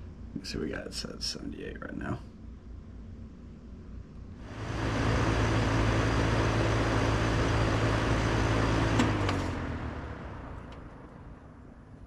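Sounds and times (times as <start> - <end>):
air conditioner compressor hum: 0.0 - 12.0
condenser fan air noise: 0.0 - 12.0.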